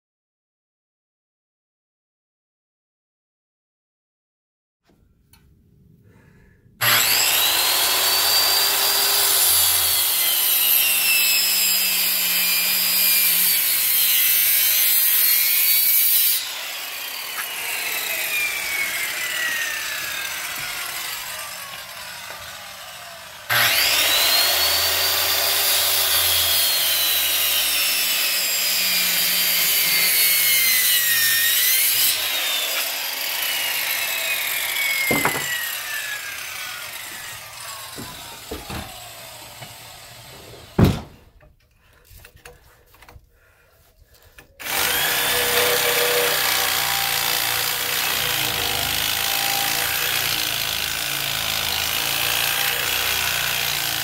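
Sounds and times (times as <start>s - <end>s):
circular saw cutting wood: 6.8s - 41.2s, 44.1s - 54.0s
reciprocating saw cutting: 6.8s - 41.2s, 44.4s - 54.0s.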